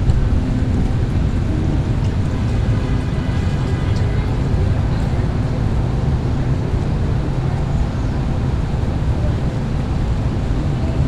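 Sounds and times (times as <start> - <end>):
traffic on a wet street: 0.0 - 11.0.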